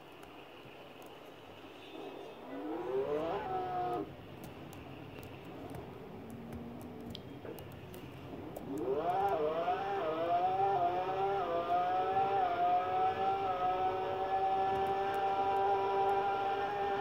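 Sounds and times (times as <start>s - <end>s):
car engine revving inside cabin: 2.0s - 4.2s, 5.4s - 17.0s.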